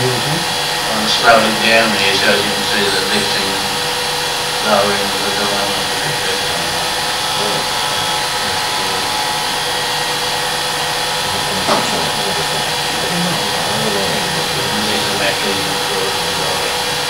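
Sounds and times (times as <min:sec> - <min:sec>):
film projector whirring: 0:00.0 - 0:17.0.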